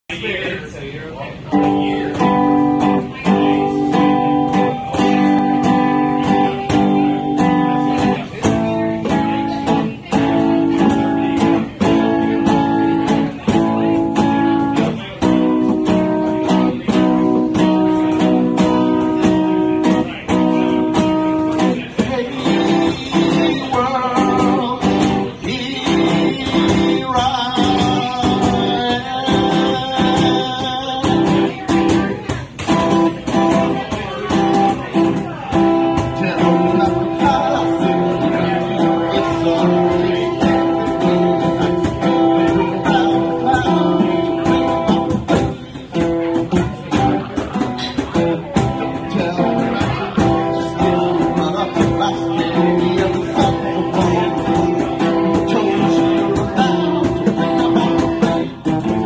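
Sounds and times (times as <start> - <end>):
acoustic guitar strumming: 0.1 - 59.0.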